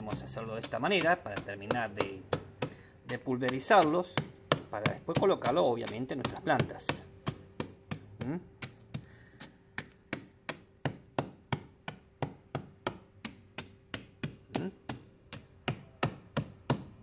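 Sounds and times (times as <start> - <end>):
hammer crushing bones in ash: 0.0 - 17.0.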